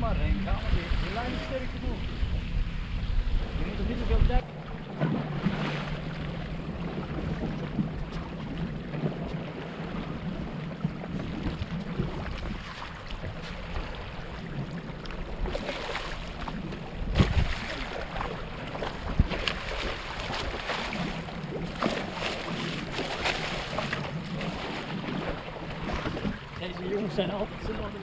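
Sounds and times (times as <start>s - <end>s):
boat engine running: 0.0s - 28.0s
water noise: 0.0s - 28.0s
wind: 0.0s - 28.0s.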